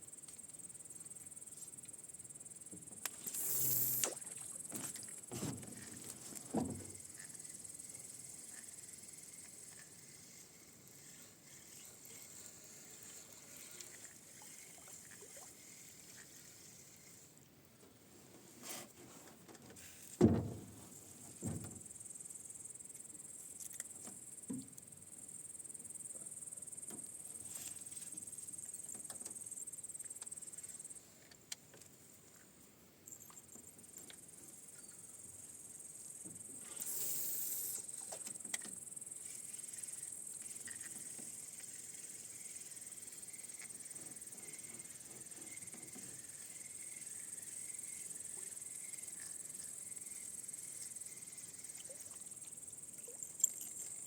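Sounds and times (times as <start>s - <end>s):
insects chirring: 0.0s - 17.4s, 20.0s - 54.0s.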